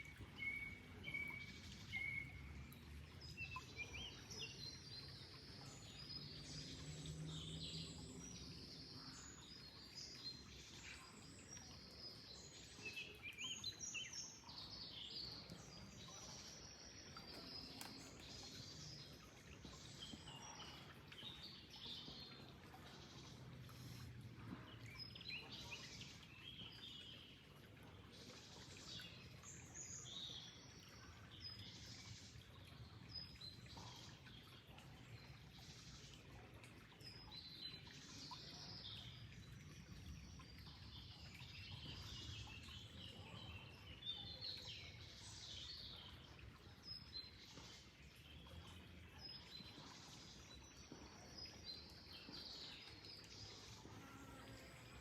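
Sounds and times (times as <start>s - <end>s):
low rumble of flowing water: 0.0s - 55.0s.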